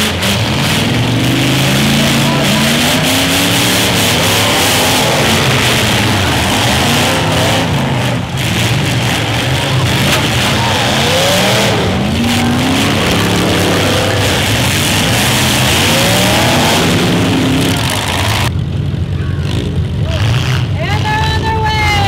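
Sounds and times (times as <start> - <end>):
car engines revving hard: 0.0 - 22.0
cars crashing into one another: 0.4 - 18.5.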